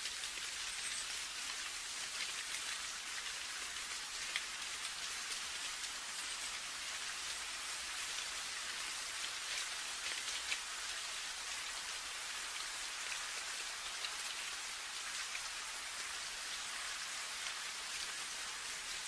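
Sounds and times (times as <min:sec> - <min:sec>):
rain drops ticking on hard surface: 0:00.0 - 0:19.0.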